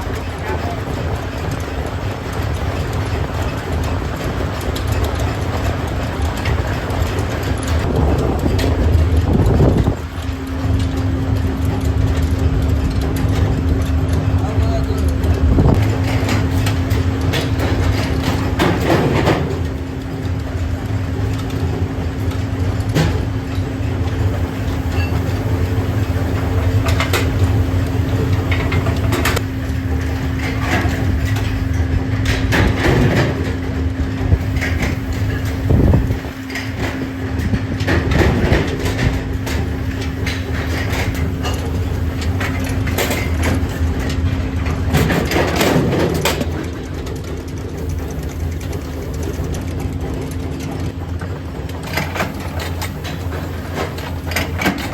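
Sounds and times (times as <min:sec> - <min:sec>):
workshop machinery humming: 0:00.0 - 0:54.9.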